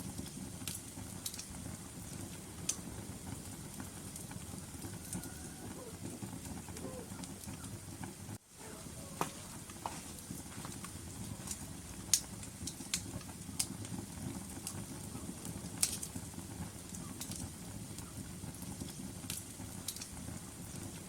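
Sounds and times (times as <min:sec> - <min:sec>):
log fire crackling: 0:00.0 - 0:21.0
low rumble of flames: 0:00.0 - 0:21.0.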